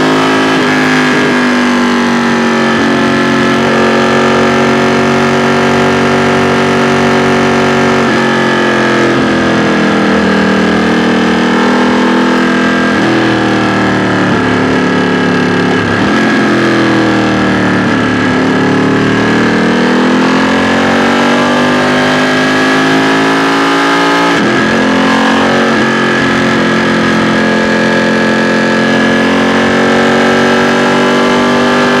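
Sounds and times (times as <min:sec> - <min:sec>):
motorcycle engine and exhaust: 0:00.0 - 0:32.0.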